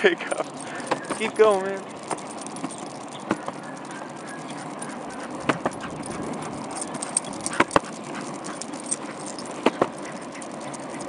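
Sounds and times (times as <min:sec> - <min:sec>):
skateboard wheels rolling on pavement: 0:00.0 - 0:11.0.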